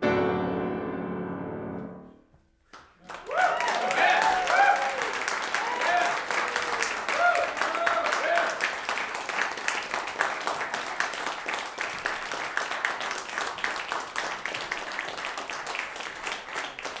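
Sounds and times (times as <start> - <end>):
audience applauding: 2.7 - 17.0.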